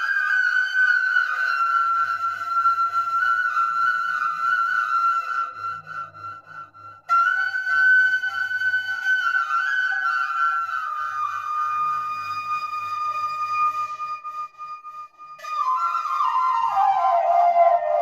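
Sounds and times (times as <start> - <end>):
flute playing long notes: 0.0 - 18.0.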